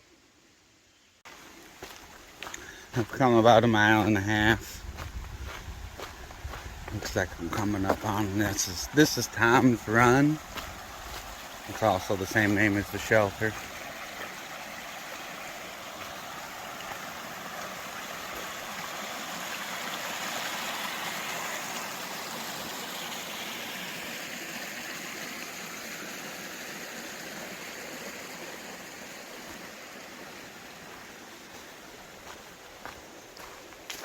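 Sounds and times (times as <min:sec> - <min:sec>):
creek rushing over rocks: 0:01.3 - 0:34.0.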